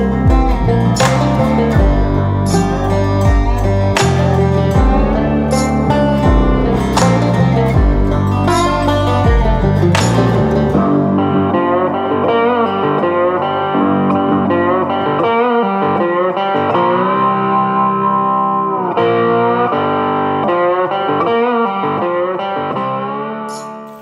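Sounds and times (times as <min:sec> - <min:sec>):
guitar instrumental music: 0:00.0 - 0:24.0.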